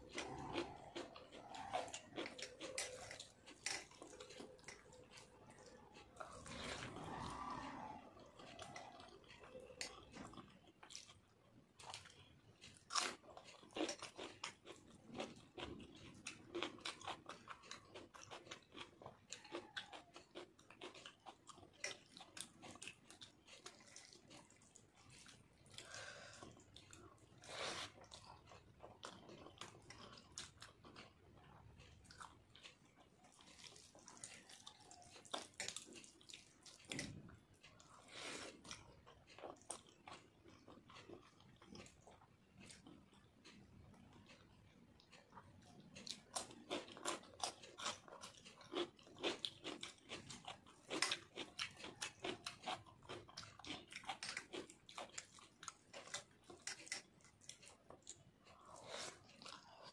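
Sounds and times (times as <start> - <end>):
chewing and wet mouth smacks: 0.0 - 59.9.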